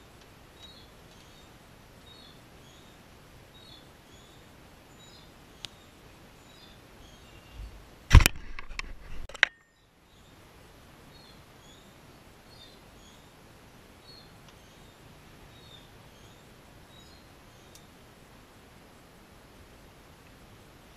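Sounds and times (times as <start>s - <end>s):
faint background hiss: 0.0s - 20.9s.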